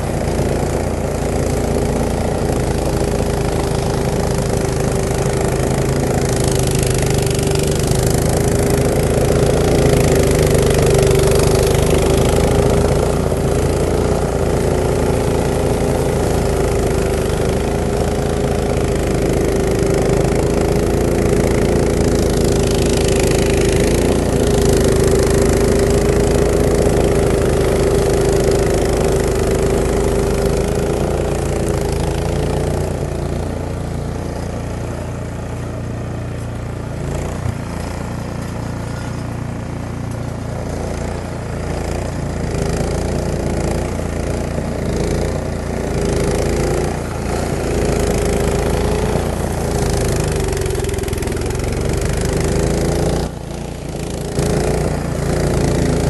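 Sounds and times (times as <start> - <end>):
augers chewing slushy snow: 0.0 - 56.0
snowblower engine running: 0.0 - 56.0.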